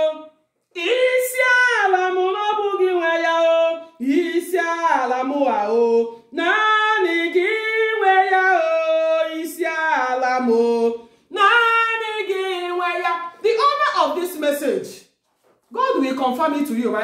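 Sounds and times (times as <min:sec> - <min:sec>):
person singing unaccompanied: 0:00.0 - 0:13.8.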